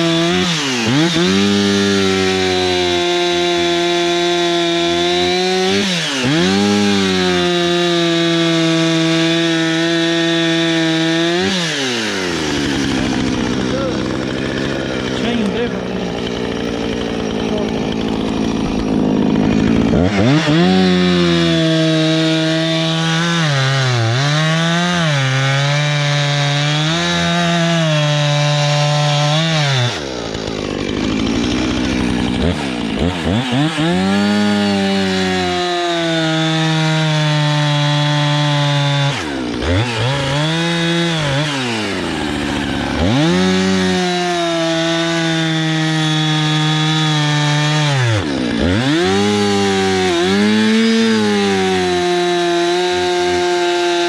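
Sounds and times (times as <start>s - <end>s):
chainsaw idling and revving: 0.0s - 54.0s.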